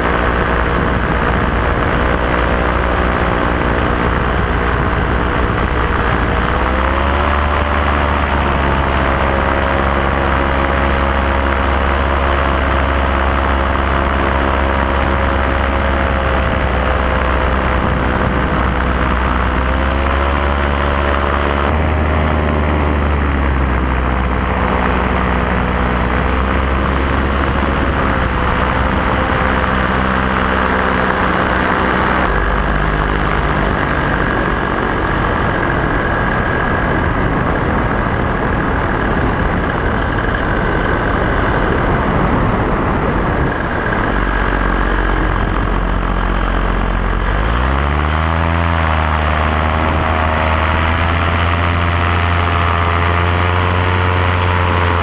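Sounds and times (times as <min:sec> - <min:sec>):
paramotor engine and propeller: 0:00.0 - 0:55.0
wind rushing past microphone: 0:00.0 - 0:55.0.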